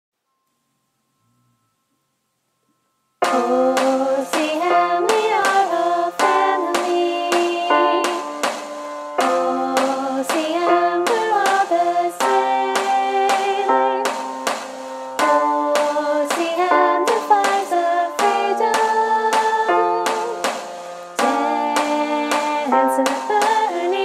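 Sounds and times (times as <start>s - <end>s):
group singing in harmony: 3.2s - 24.0s
sharp percussive strokes: 3.2s - 24.0s.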